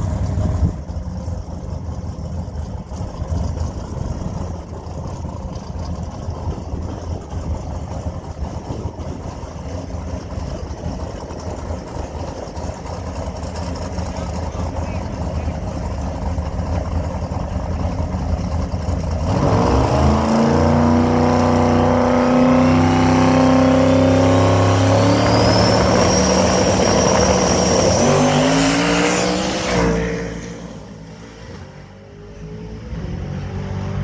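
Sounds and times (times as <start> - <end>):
drag racing car engine revving: 0.0 - 34.0
high-pitched engine whine: 0.0 - 34.0.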